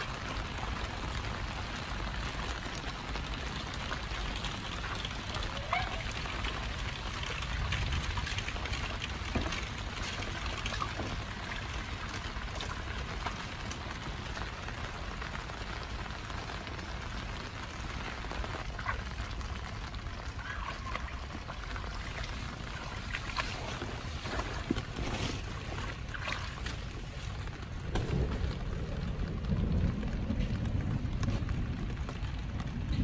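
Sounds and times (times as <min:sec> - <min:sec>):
rain falling on water and grass: 0:00.0 - 0:33.0.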